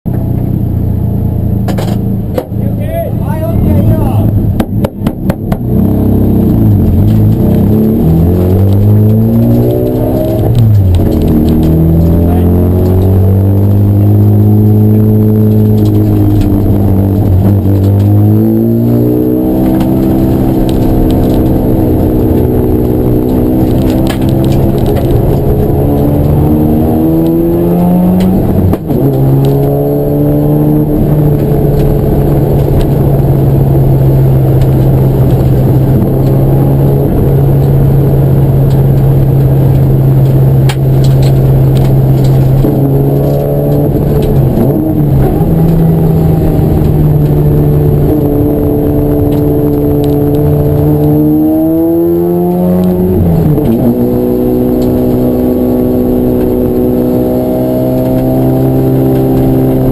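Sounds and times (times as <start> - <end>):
race car engine revving: 1.4 - 59.9.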